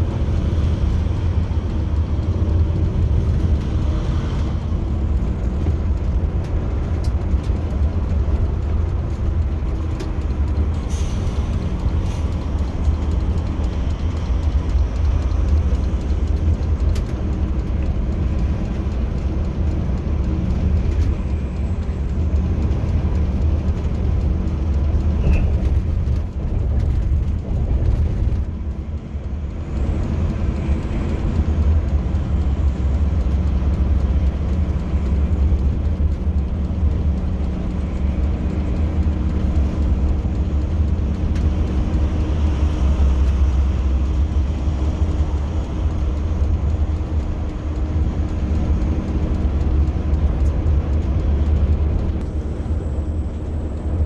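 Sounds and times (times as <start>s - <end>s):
bus engine and tyre drone: 0.0s - 54.0s.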